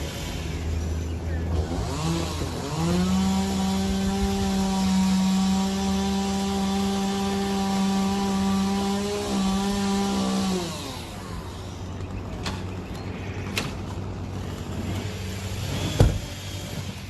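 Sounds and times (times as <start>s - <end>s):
small motor winding down: 0.0s - 12.0s, 14.4s - 17.0s.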